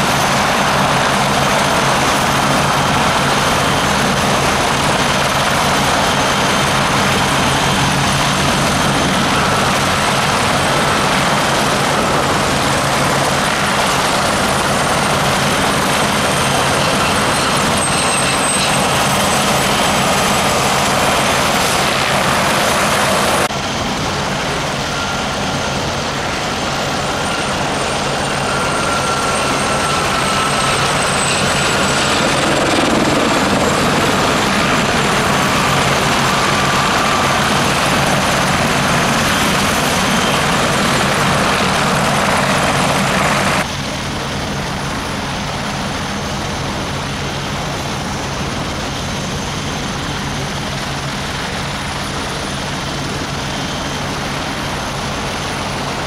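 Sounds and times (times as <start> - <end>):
helicopter rotor thrum: 0.0 - 56.0
turbine rush: 0.0 - 56.0.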